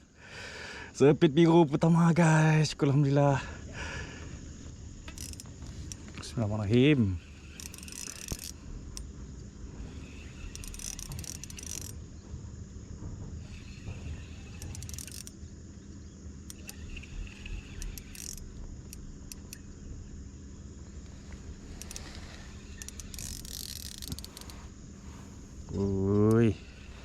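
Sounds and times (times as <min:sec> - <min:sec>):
insects buzzing: 0:00.0 - 0:27.0
steady low hum: 0:00.0 - 0:27.0.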